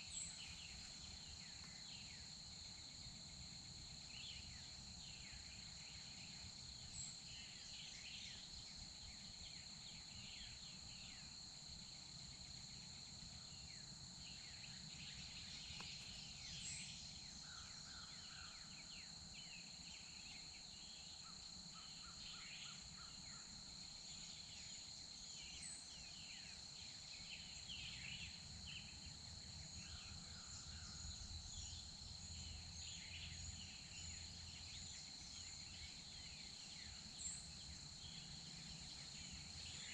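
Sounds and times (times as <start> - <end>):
high insect drone: 0.0 - 39.9
songbirds chirping: 0.0 - 39.9.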